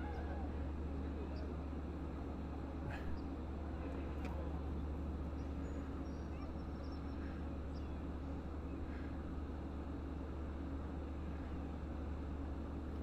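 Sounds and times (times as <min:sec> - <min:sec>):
diesel locomotive idling: 0:00.0 - 0:13.0.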